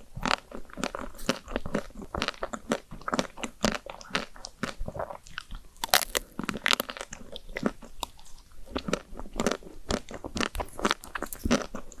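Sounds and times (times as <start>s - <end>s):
crunchy cookies being chewed: 0.0s - 12.0s.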